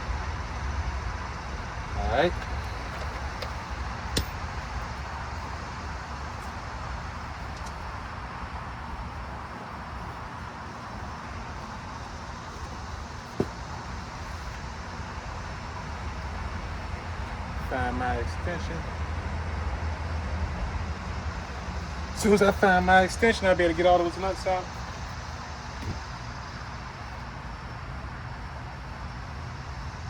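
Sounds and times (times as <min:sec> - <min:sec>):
distant road traffic rumble: 0:00.0 - 0:30.0.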